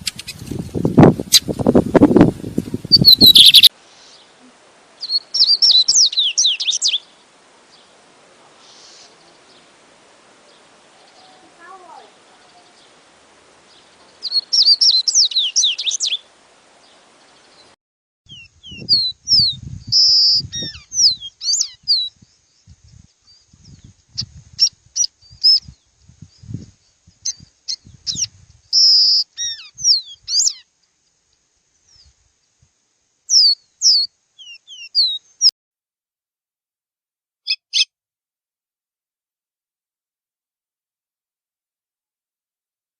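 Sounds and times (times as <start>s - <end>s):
songbird singing: 0.0s - 35.5s, 37.5s - 37.9s.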